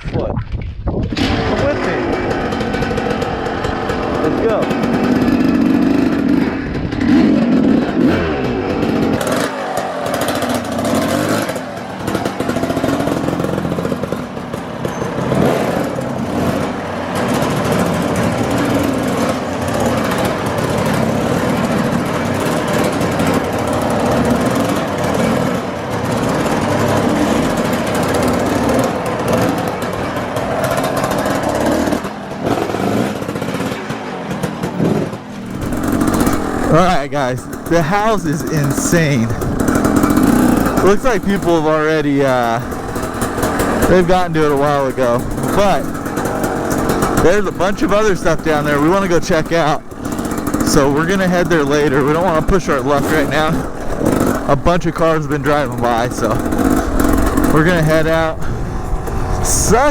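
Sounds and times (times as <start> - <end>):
dirt bike engine revving: 1.2 - 59.9.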